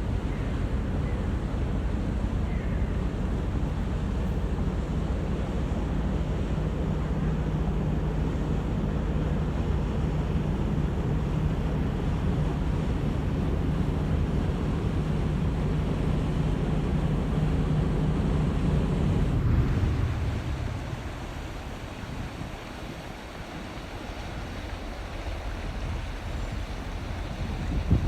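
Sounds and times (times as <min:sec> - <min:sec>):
ship engine drone: 0:00.0 - 0:28.0
water noise: 0:00.0 - 0:28.0
wind: 0:00.0 - 0:28.0.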